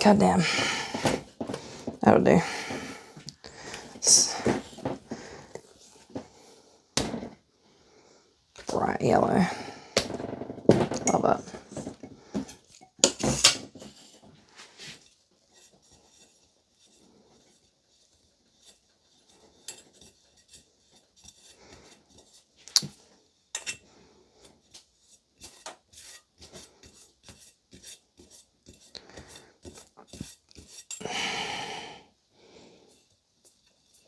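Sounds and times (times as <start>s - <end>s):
utensils clicking and scraping bowl: 0.0s - 6.3s, 8.6s - 14.2s, 14.8s - 31.1s.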